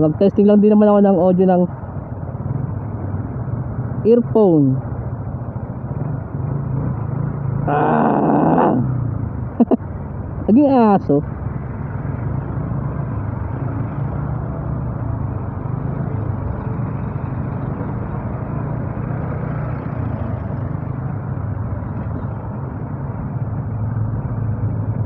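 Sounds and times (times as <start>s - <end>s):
hum of surrounding vehicles: 0.0s - 25.0s
motorcycle engine running: 1.4s - 25.0s.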